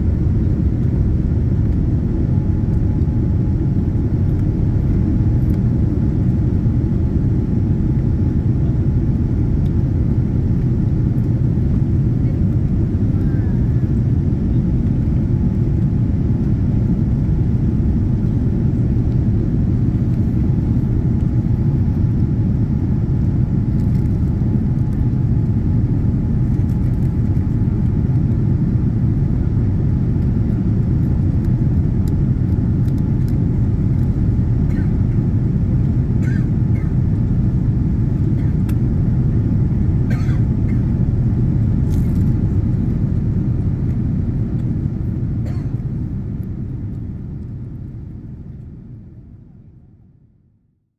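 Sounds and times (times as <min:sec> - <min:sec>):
airplane cabin engine rumble: 0:00.0 - 0:50.7.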